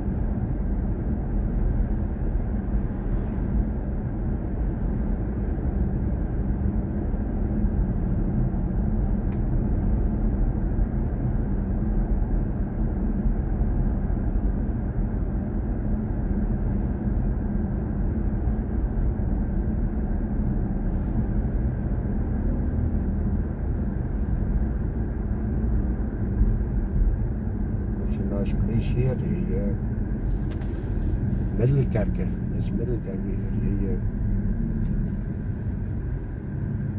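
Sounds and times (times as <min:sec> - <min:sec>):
road and tyre rumble in car cabin: 0:00.0 - 0:36.9.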